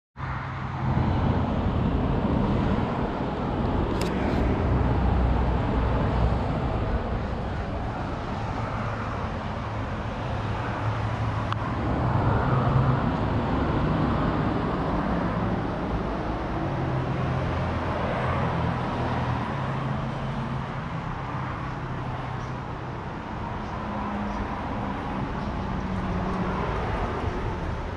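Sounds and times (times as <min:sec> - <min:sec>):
low engine hum: 0:00.2 - 0:27.9
traffic rumble: 0:00.2 - 0:27.9.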